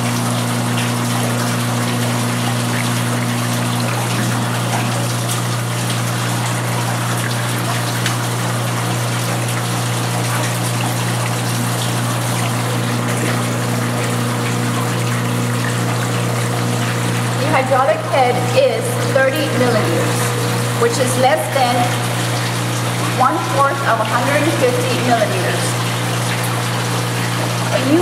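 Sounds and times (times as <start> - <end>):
water pump humming: 0.0 - 28.0
water rushing and trickling: 0.0 - 28.0.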